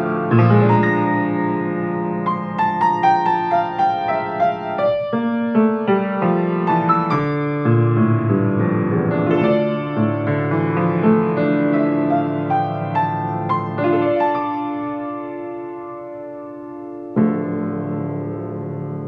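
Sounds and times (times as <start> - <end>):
solo piano slow chords: 0.0 - 19.0.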